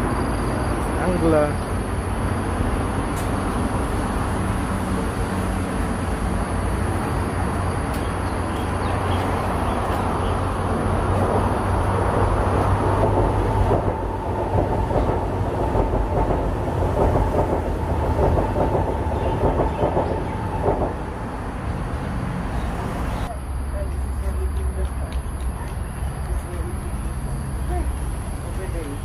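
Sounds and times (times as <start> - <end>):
train rumble and rail clatter: 0.0 - 29.0.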